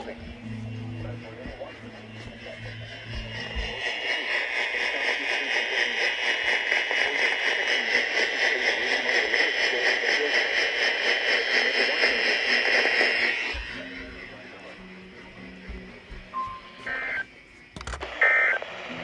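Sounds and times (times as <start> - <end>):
electronic static noise: 0.0 - 19.0.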